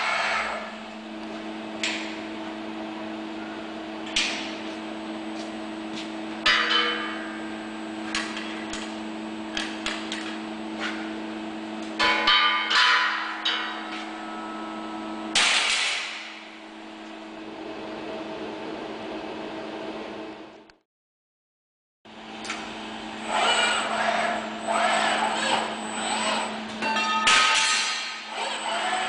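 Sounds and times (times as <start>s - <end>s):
machinery humming: 0.0s - 20.7s, 22.1s - 29.0s.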